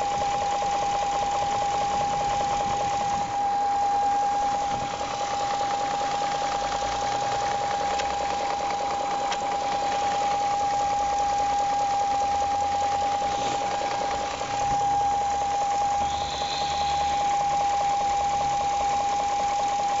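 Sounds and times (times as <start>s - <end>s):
car engine running with knocking: 0.0s - 20.0s
high-pitched whine: 0.0s - 20.0s.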